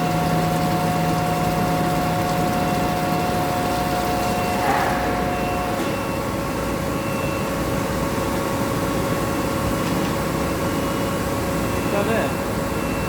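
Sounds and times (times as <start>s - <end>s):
machine humming with low rumble: 0.0s - 12.8s.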